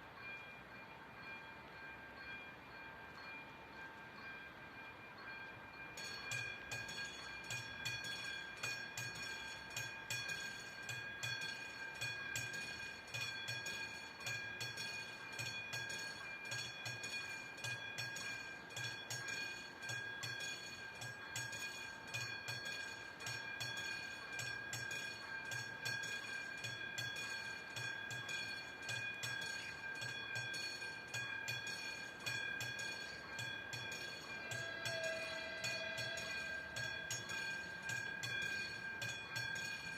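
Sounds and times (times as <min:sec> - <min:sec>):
crossing warning bell ringing: 0:00.0 - 0:39.9
train wheels clacking over rail joints: 0:05.2 - 0:39.9.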